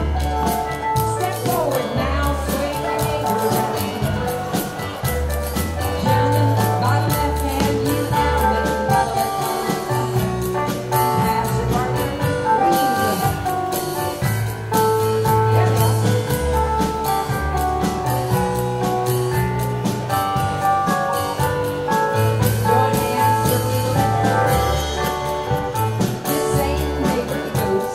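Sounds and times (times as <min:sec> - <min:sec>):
live dance band playing: 0:00.0 - 0:27.9.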